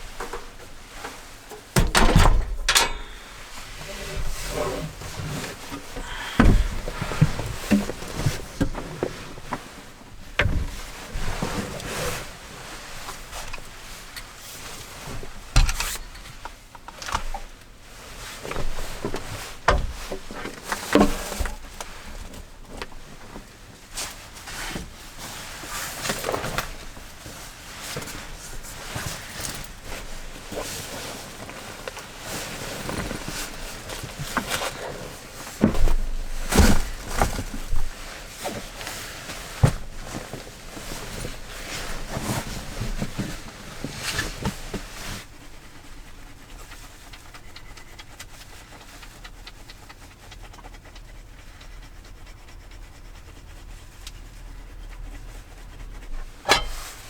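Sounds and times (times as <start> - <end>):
knocks and rustling of handling: 0.0 - 51.8, 54.1 - 57.0.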